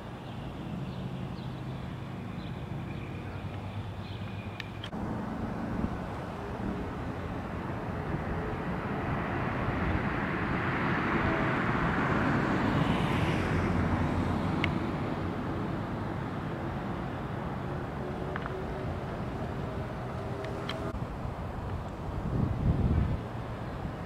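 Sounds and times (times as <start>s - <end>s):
vehicle passing: 0.5s - 21.1s.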